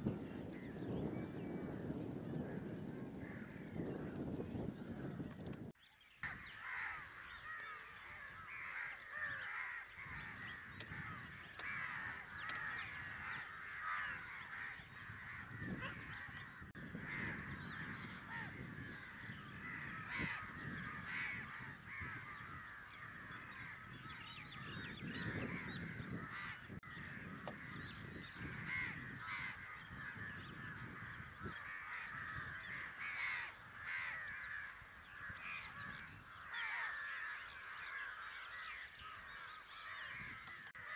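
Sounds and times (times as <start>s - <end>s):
flock of crows cawing: 2.4s - 4.3s, 6.2s - 40.9s.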